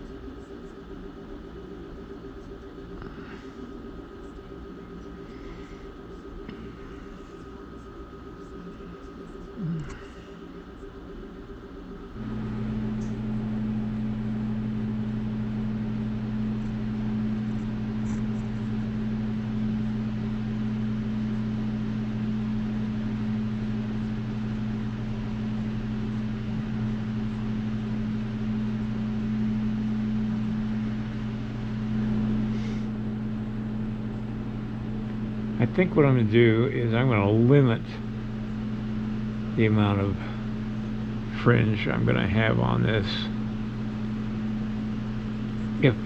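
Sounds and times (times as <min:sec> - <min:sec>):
electric fan appliance humming: 0:00.0 - 0:46.0.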